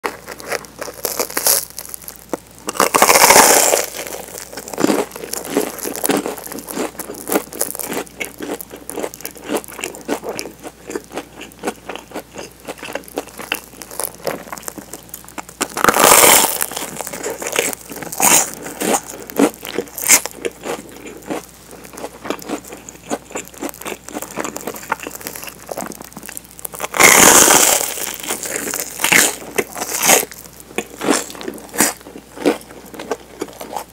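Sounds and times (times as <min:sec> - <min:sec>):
fingers tapping bread crust: 0:00.0 - 0:33.9
loud bread crunches: 0:00.0 - 0:33.9
toasted bread crackling: 0:00.0 - 0:33.9.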